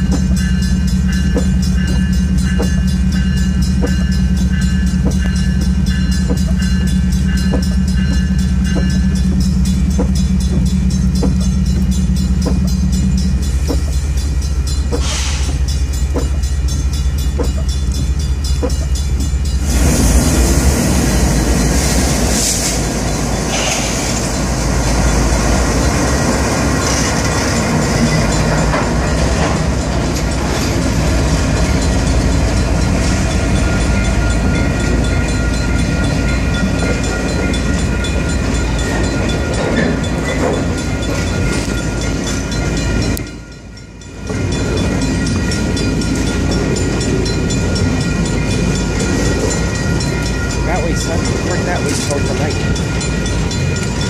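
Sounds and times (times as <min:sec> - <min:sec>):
diesel locomotive rumble: 0:00.0 - 0:54.0
train wheels on rails: 0:00.0 - 0:54.0.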